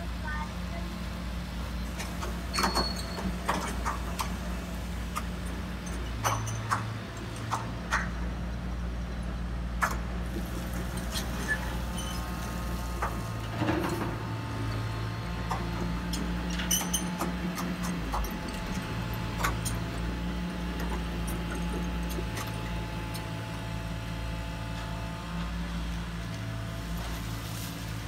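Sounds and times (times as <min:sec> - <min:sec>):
excavator pump motor humming: 0:00.0 - 0:28.0.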